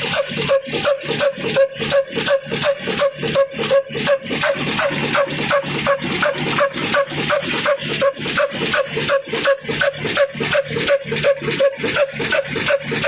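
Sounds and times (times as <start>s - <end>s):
stationary diesel engine running: 0.0s - 13.0s.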